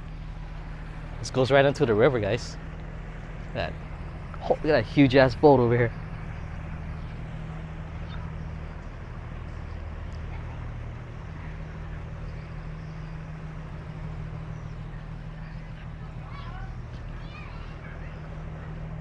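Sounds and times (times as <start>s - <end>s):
motor engine humming: 0.0s - 19.0s.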